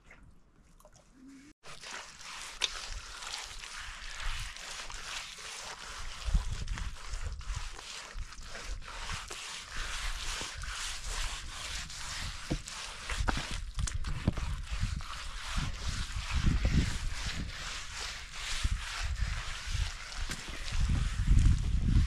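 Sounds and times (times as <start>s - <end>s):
hand smearing mud plaster: 1.7s - 22.0s.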